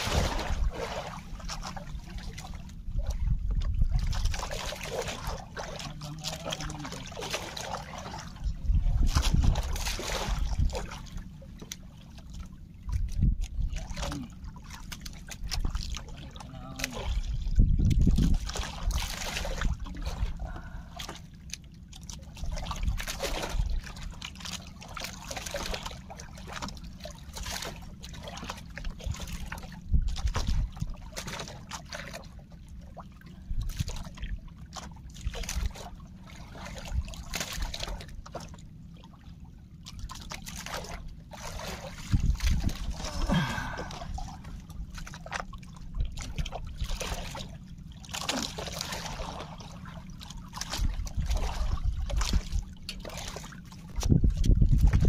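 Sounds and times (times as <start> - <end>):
steady low rumble: 0.0 - 55.0
water splashing against boat: 0.0 - 55.0.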